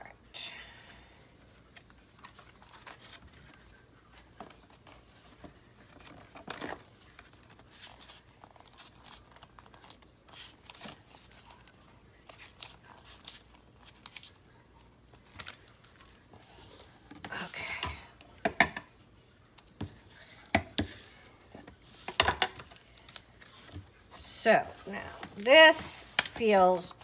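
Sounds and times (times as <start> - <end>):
paper packaging rustling and crinkling: 1.2 - 18.4, 19.1 - 27.0.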